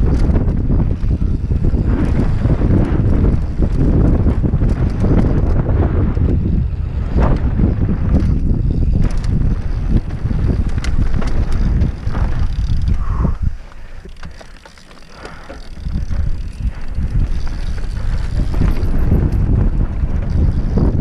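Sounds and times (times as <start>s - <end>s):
wind on camera microphone: 0.0s - 14.4s, 15.6s - 21.0s
mountain bike rattling: 0.0s - 21.0s
tyres on dirt trail: 0.0s - 21.0s.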